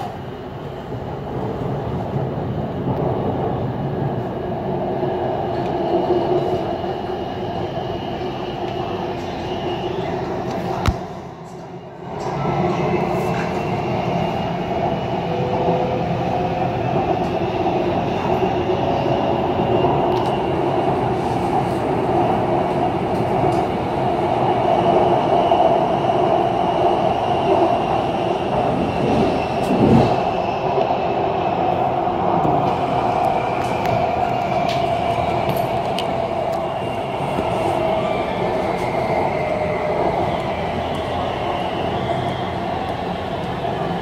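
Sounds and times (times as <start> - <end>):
train wheels and motors rumbling: 0.0 - 44.0.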